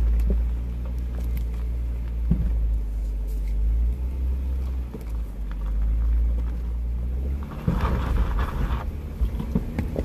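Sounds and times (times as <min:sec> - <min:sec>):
car engine droning under load: 0:00.0 - 0:10.0.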